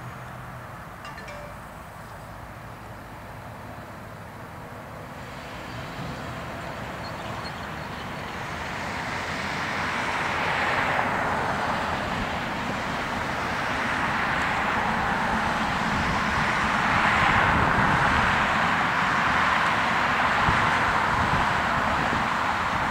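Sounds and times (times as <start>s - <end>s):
engine and road noise: 0.0s - 22.9s.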